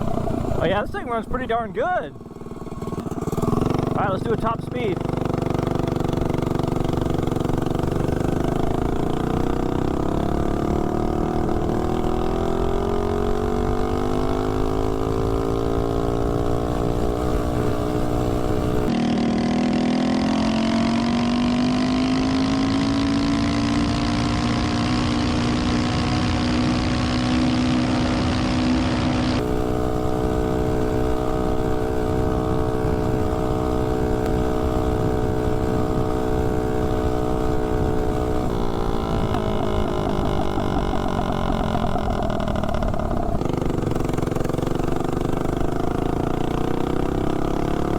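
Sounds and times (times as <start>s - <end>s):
mini bike engine at full throttle: 0.0s - 47.9s.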